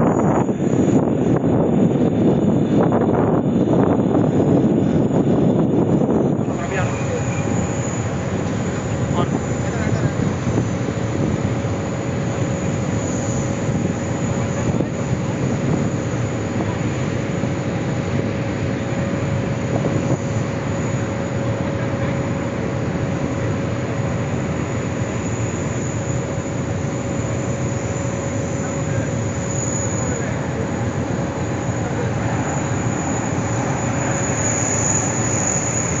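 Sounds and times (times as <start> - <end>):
jet engines rushing overhead: 0.0 - 36.0.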